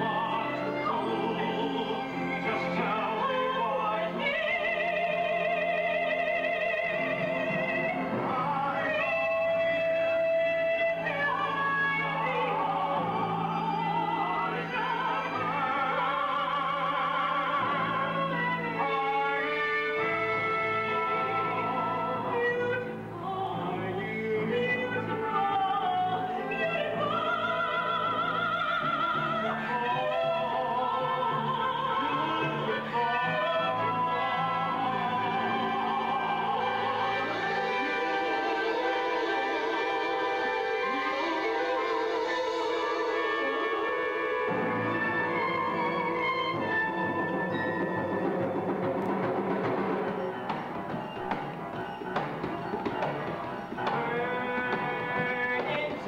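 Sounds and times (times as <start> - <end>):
person singing with vibrato: 0.0 - 48.2, 53.4 - 56.0
orchestral accompaniment: 0.0 - 56.0.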